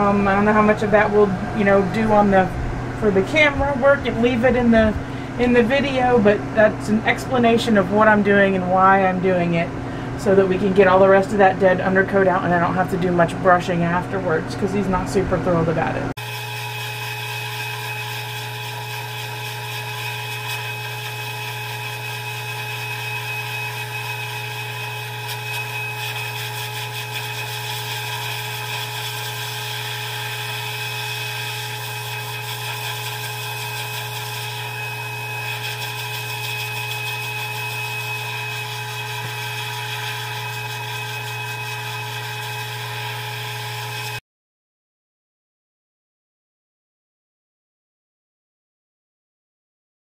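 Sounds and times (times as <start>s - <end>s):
dog dryer motor whine: 0.0s - 44.2s.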